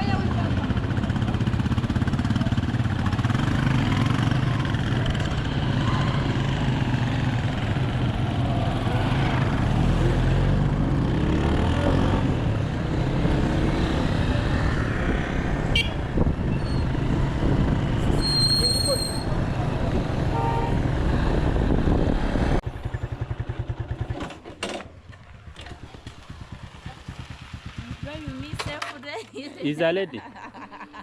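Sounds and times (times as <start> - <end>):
motorcycle engine running: 0.0 - 16.4, 19.6 - 29.2.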